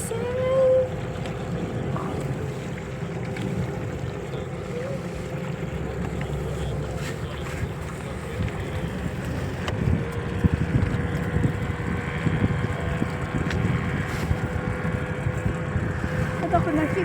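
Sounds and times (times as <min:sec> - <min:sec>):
motorboat engine humming: 0:00.0 - 0:17.0
wind buffeting microphone: 0:00.0 - 0:17.0.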